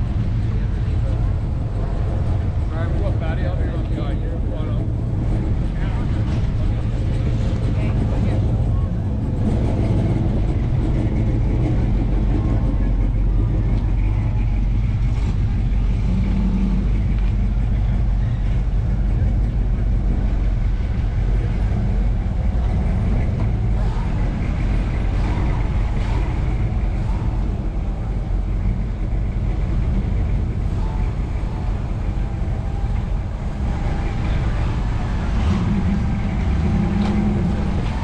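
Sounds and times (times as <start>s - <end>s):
car engine rumbling: 0.0s - 38.0s
faint voices: 0.0s - 38.0s.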